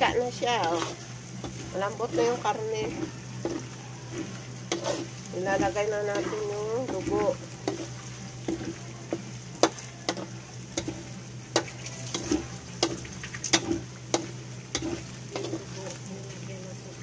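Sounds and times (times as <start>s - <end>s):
spatula scraping against wok: 0.0s - 16.9s
pork sizzling in oil: 0.0s - 17.0s.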